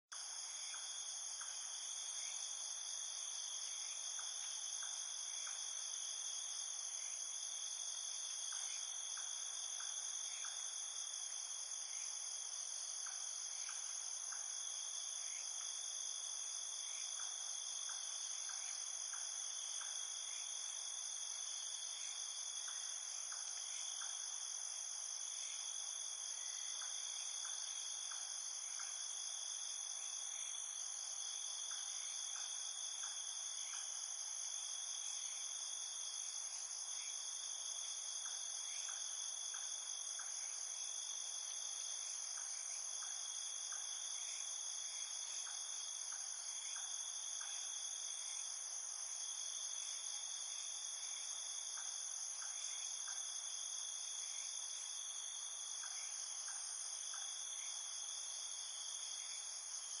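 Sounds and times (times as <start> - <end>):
crickets chirping: 0.1 - 60.0
faint scattered ticks: 0.1 - 60.0.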